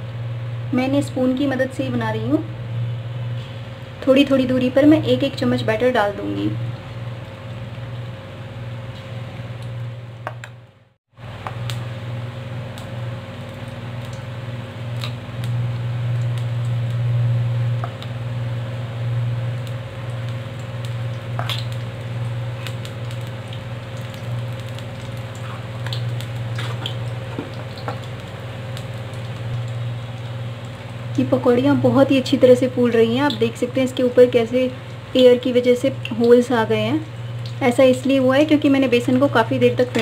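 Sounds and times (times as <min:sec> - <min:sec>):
batter sizzling in hot oil: 0:02.6 - 0:10.4, 0:11.2 - 0:40.0.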